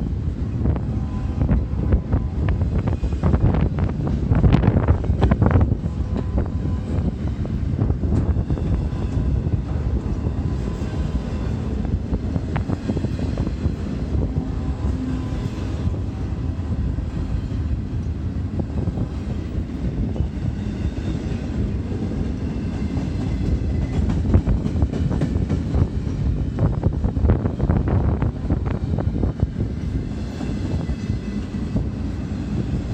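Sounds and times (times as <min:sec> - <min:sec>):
freight train wheels rumbling: 0:00.0 - 0:32.9
train cars clicking and clattering: 0:00.0 - 0:32.9.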